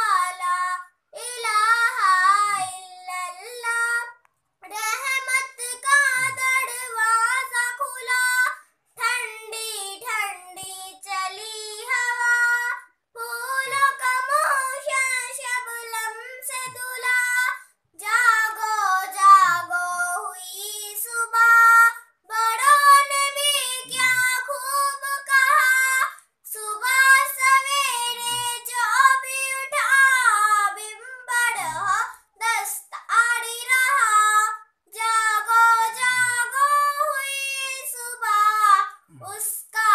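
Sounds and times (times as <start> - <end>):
girl singing unaccompanied: 0.0 - 39.9.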